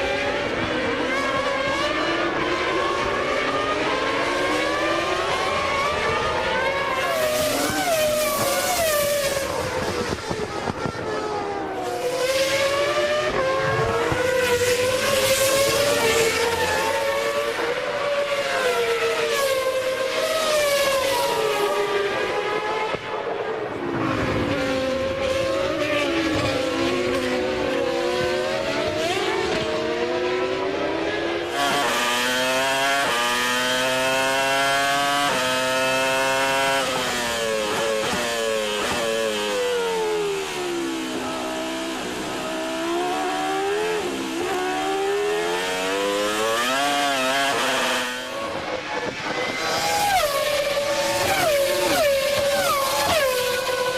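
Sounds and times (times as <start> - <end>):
car accelerating through upshifts: 0.0 - 53.9
racing car engines: 0.0 - 53.9.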